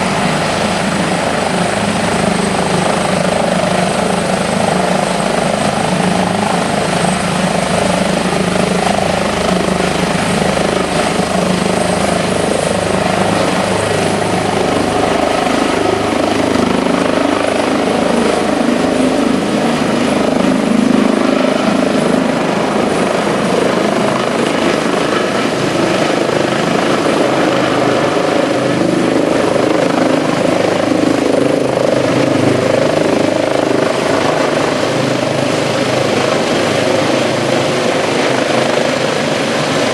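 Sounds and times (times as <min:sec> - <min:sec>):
helicopter rotor and engine: 0:00.0 - 0:39.9
high turbine whine: 0:00.0 - 0:39.9.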